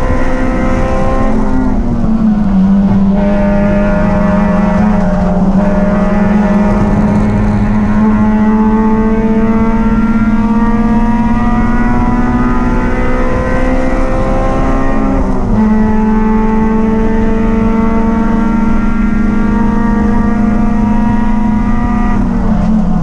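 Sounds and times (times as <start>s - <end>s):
race car engine running: 0.0s - 23.0s.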